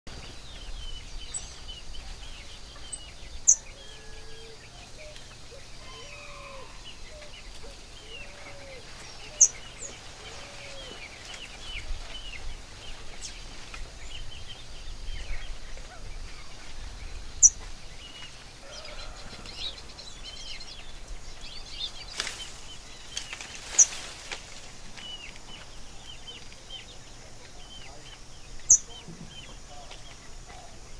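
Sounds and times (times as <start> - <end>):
birds chirping: 0.1 - 30.9.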